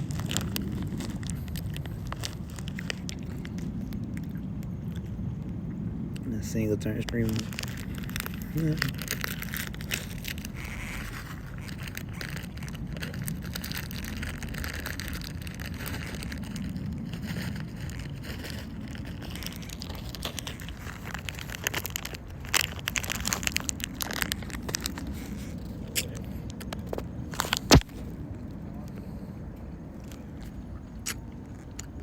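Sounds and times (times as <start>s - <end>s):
boat low rumble: 0.0s - 32.0s.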